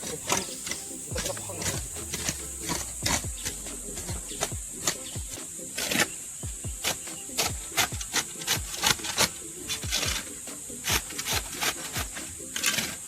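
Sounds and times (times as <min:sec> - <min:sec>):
rough scraping strokes: 0:00.0 - 0:13.0.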